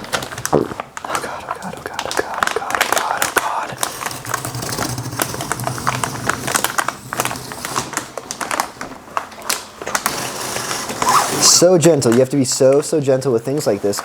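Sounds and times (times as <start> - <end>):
packaging crinkling: 0.0 - 12.8.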